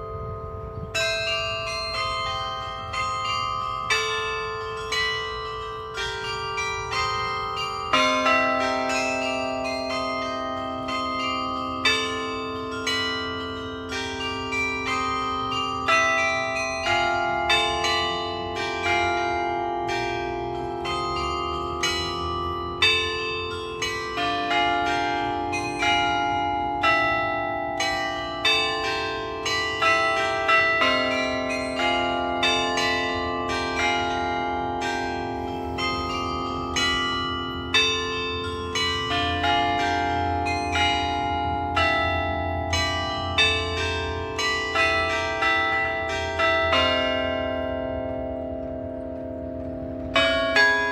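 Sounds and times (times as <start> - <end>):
carillon bells playing melody: 0.0 - 50.9.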